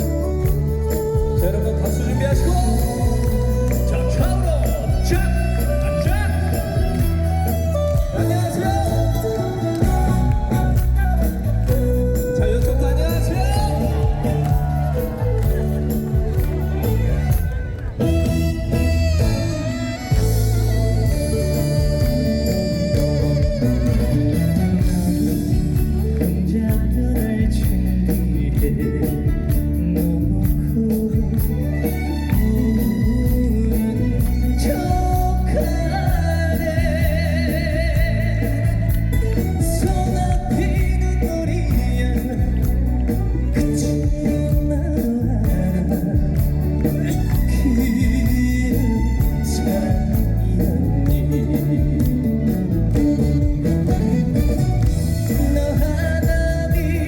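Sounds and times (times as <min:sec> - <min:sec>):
instrumental backing music: 0:00.0 - 0:57.0
person singing with vibrato: 0:00.0 - 0:57.0.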